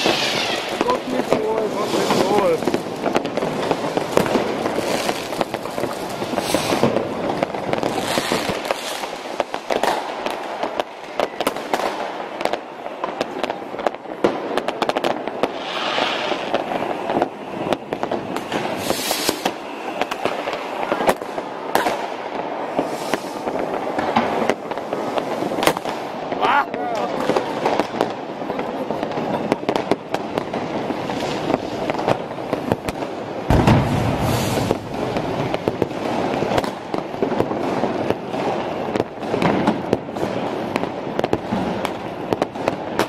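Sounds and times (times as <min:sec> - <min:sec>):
fireworks and firecrackers banging: 0:00.0 - 0:43.0.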